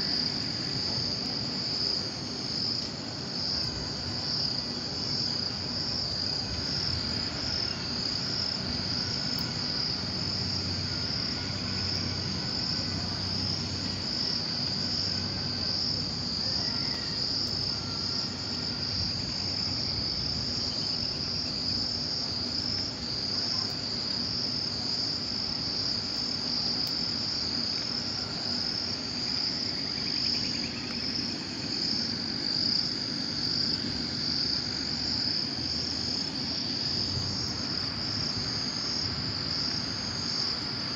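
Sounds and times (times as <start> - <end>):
insect chorus trilling: 0.0 - 40.9.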